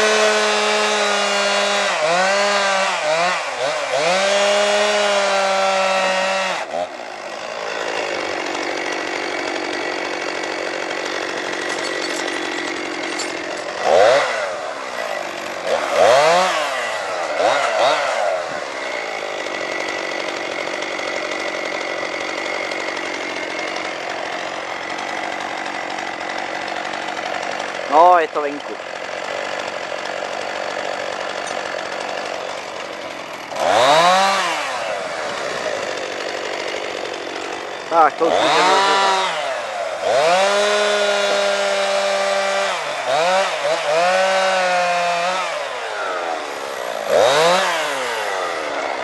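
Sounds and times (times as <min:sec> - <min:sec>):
chainsaw revving: 0:00.0 - 0:49.0
steady engine running: 0:00.0 - 0:49.0.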